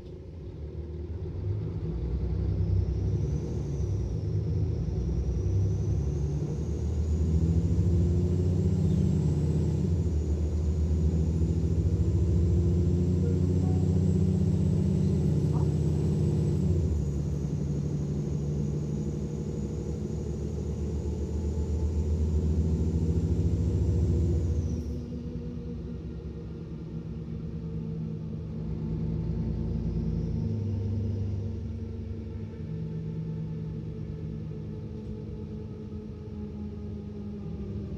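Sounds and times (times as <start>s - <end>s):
bus diesel engine drone: 0.0s - 37.9s
high turbo whine: 0.0s - 37.9s.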